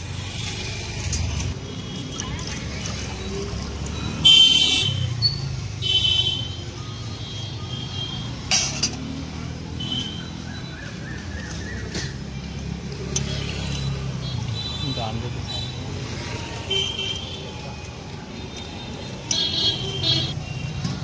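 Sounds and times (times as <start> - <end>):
traffic engine rumble: 0.0 - 21.0.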